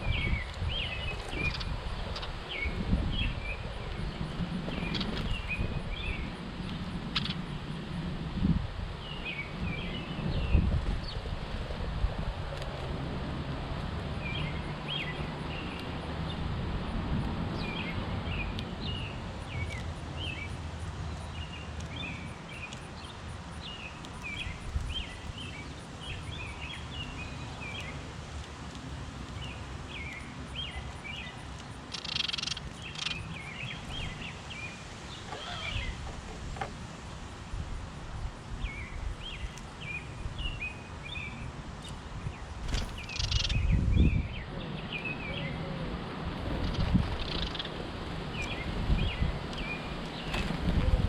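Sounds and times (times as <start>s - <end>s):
songbirds chirping: 0.0s - 51.0s.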